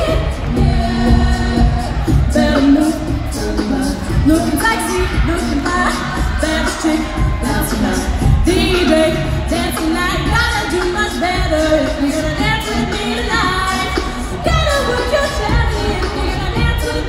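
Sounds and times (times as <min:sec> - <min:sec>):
a cappella group singing in harmony: 0:00.0 - 0:17.0
vocal percussion beat: 0:00.0 - 0:17.0.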